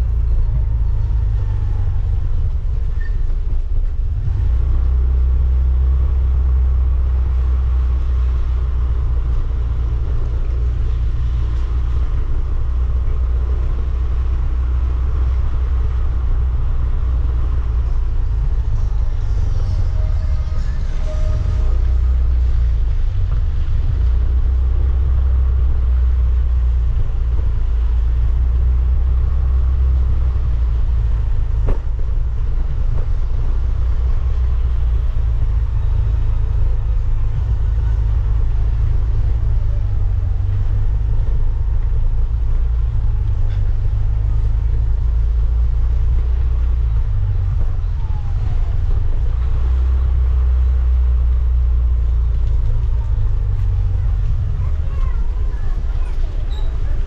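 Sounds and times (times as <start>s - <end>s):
motorcycle engine rumble: 0.0s - 57.0s
road noise: 0.0s - 57.0s.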